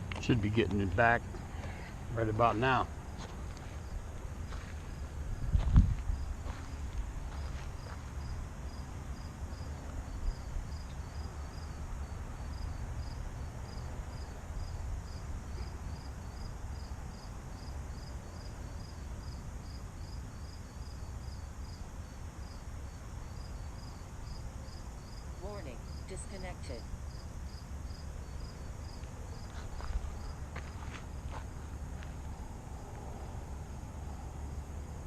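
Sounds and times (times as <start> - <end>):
cricket chirping: 0.0 - 35.0.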